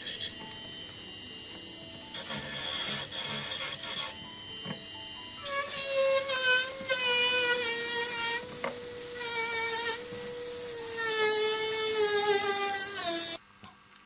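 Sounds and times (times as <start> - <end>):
rotary polishing tool whining: 0.0 - 13.4.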